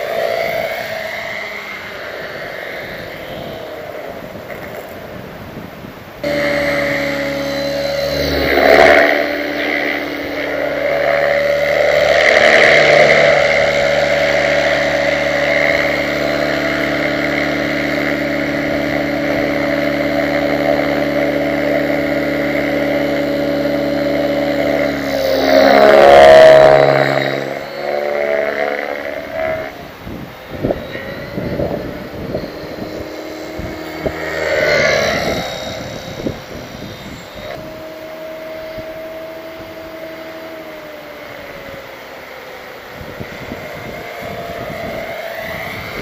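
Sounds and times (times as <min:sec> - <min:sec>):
rc helicopter motor whine: 0:00.0 - 0:46.0.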